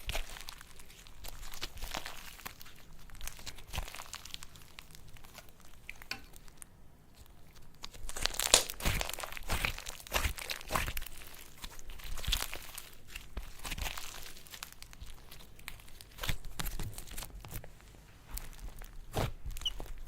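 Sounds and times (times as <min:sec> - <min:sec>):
slime squished by hand crackling: 0:00.0 - 0:06.6, 0:07.2 - 0:17.7, 0:18.3 - 0:20.0.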